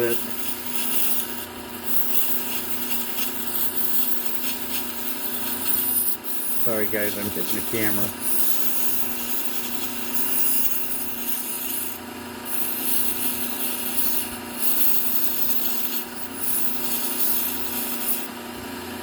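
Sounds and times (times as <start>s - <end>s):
knife grinding on belt sander: 0.0s - 18.6s
sander motor hum: 0.0s - 19.0s.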